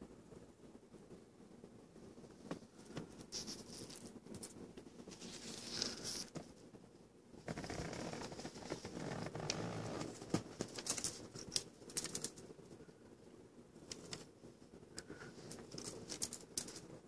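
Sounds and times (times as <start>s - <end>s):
soft scratching and rustling: 0.3s - 17.0s.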